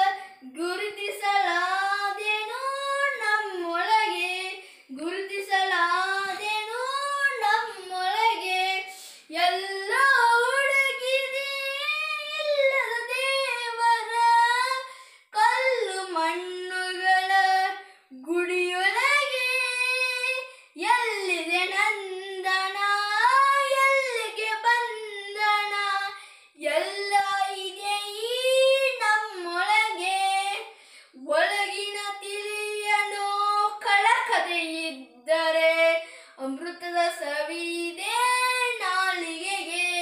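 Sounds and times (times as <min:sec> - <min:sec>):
boy singing unaccompanied: 0:00.0 - 0:40.0.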